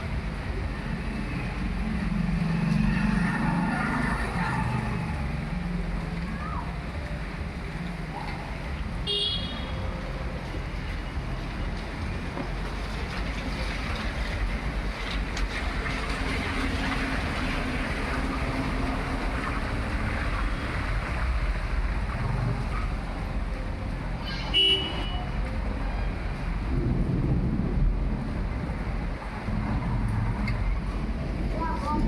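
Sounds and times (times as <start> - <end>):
traffic noise: 0.0 - 32.0
wind: 0.0 - 32.0.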